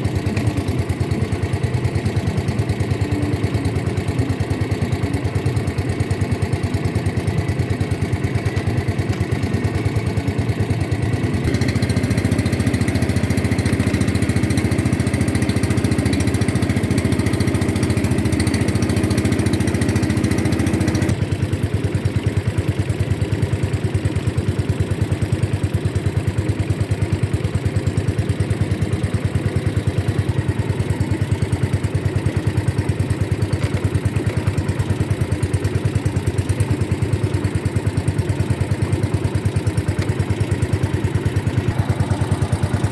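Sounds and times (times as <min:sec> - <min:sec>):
motorboat engine running: 0:00.0 - 0:42.9.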